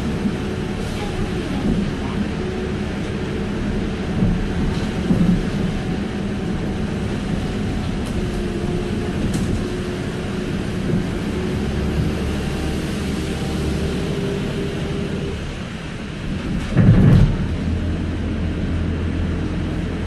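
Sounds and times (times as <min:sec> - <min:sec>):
bus engine hum: 0:00.0 - 0:20.0
tyre noise on wet road: 0:00.0 - 0:20.0.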